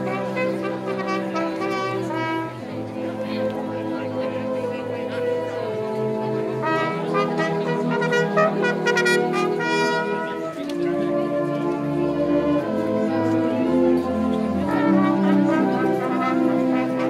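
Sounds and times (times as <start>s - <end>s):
wind band playing slow chords: 0.0s - 17.0s.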